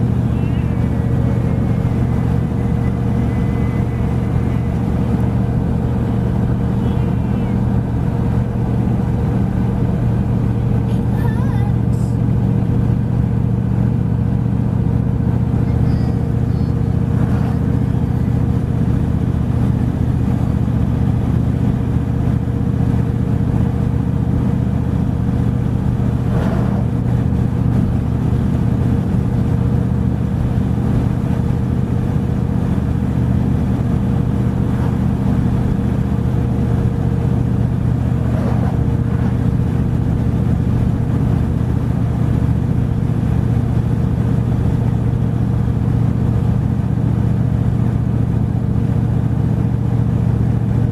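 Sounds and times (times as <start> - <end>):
truck driving: 0.0 - 50.9.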